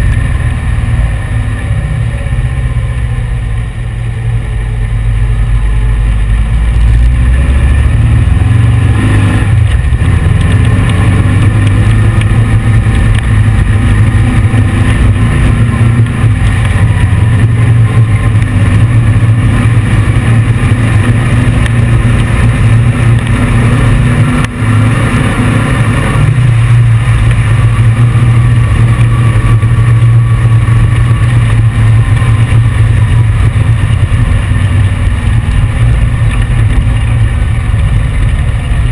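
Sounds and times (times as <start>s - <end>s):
engine running under load: 0.0s - 38.9s.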